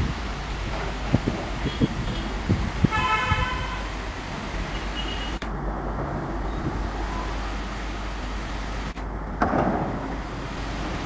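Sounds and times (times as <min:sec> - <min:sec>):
locomotive engine rumbling: 0:00.0 - 0:11.0.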